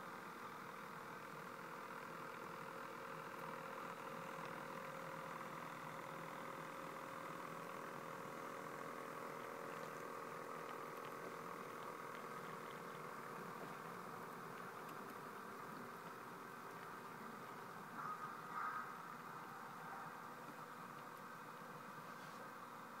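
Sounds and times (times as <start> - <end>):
model locomotive mechanical hum: 0.0 - 23.0.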